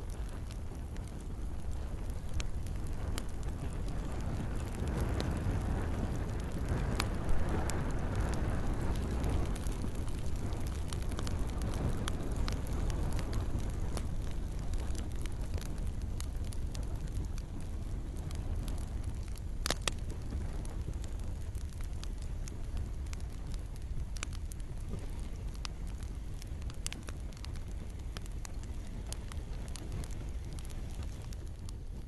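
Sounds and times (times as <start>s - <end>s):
campfire crackling and popping: 0.0s - 32.0s
low rumble: 0.0s - 32.0s.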